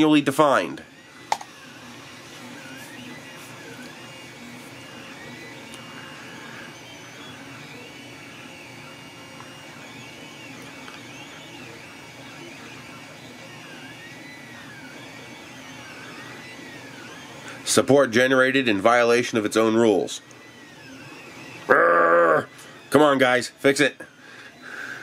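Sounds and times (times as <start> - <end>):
printer steady hum: 0.0 - 25.0
stepper motors whining: 0.0 - 25.0.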